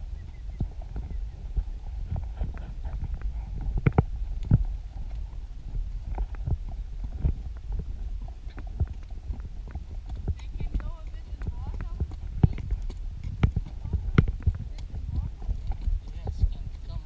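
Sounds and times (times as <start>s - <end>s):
hooves on sand: 0.0s - 17.0s
low rumbling microphone noise: 0.0s - 17.0s.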